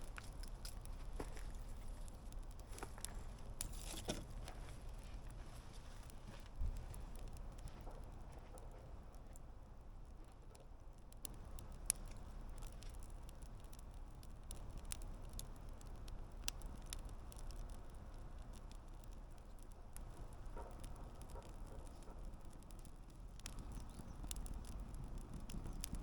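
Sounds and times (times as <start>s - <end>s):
campfire crackling and popping: 0.0s - 26.0s
low steady fire rumble: 0.0s - 26.0s.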